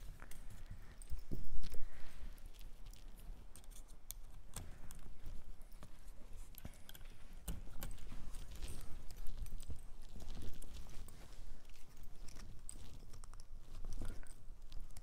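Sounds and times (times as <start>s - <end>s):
harness buckles clicking and rustling: 0.0s - 15.0s.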